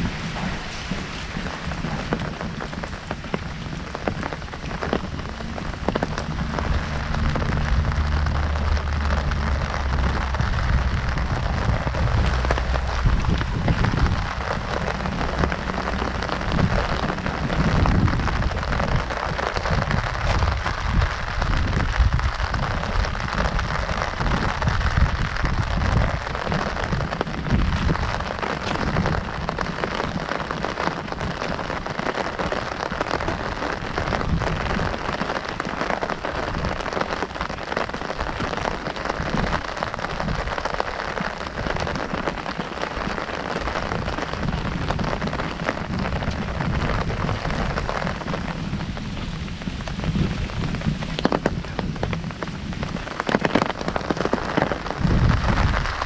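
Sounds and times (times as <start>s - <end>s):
deep low rumble: 0.0s - 56.0s
heavy rain on umbrella: 0.0s - 56.0s.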